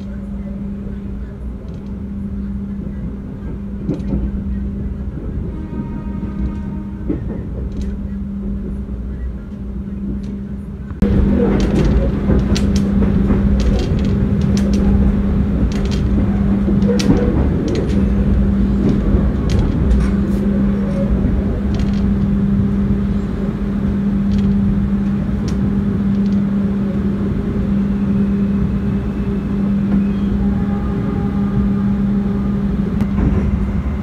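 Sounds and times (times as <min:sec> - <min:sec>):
train rumble from inside carriage: 0:00.0 - 0:34.0.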